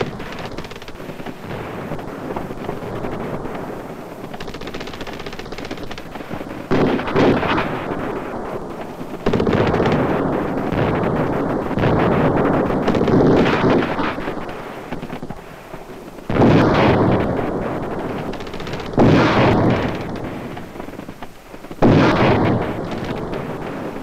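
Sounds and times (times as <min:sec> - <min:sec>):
rapid automatic gunfire: 0:00.0 - 0:15.4, 0:16.2 - 0:24.0.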